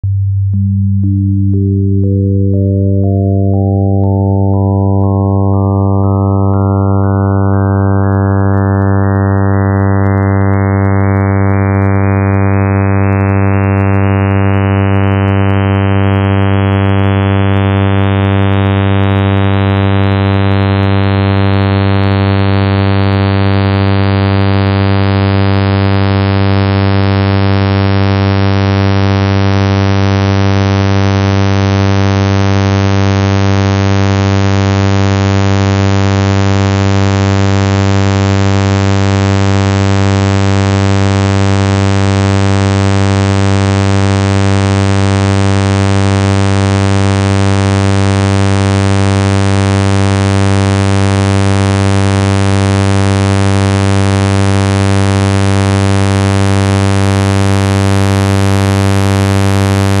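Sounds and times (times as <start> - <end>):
synthesized sawtooth tone: 0.0 - 55.1.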